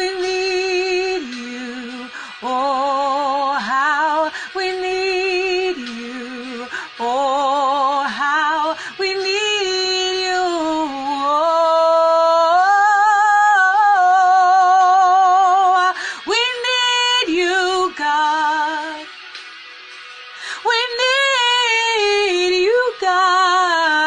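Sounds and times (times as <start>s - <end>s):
woman singing: 0.0s - 19.2s, 20.5s - 24.0s.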